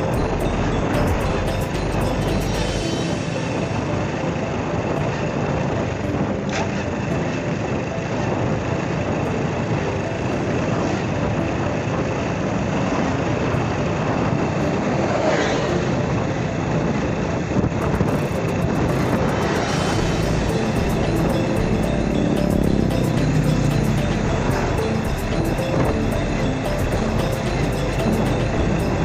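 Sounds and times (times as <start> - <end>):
motorbike engine and road noise: 0.0 - 29.0.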